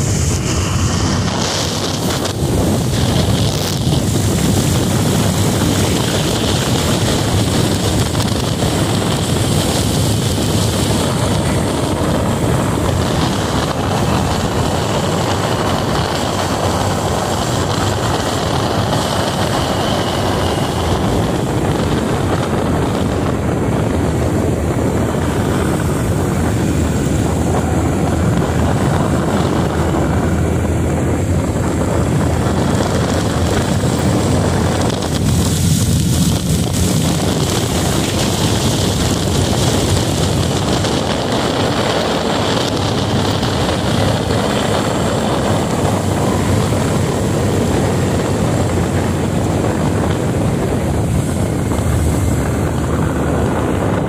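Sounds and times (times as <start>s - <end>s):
motorcycle engine drone: 0.0s - 54.0s
rushing wind and road noise: 0.0s - 54.0s.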